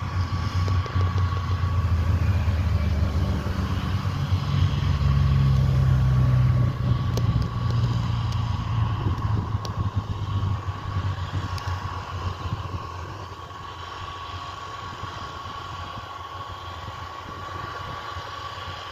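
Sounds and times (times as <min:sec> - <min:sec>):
high mower whine: 0:00.0 - 0:18.9
tractor diesel engine drone: 0:00.0 - 0:18.9.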